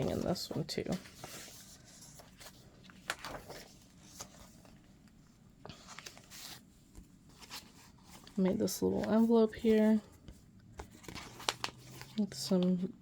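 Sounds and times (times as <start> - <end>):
journal pages turning: 0.0 - 12.7.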